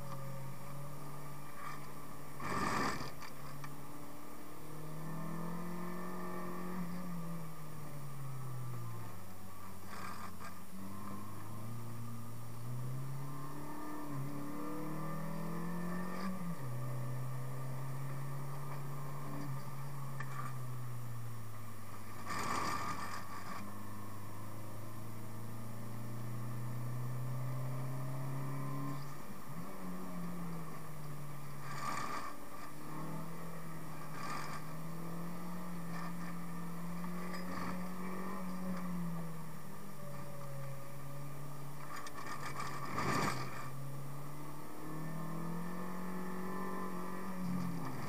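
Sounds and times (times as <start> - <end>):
car engine from inside cabin: 0.0 - 48.0.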